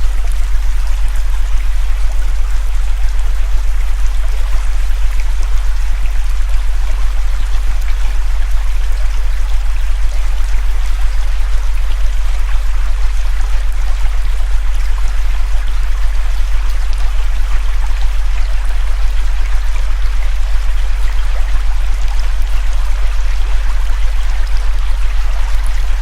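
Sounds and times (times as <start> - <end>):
low synthesized hum tone: 0.0 - 26.0.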